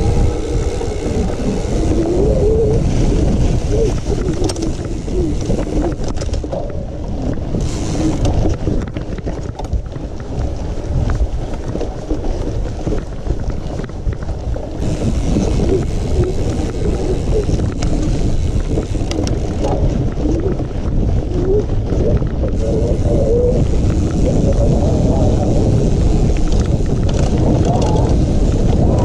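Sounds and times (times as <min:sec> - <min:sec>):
bike knocks and rattles: 0:00.0 - 0:29.0
wind buffeting microphone: 0:00.0 - 0:29.0.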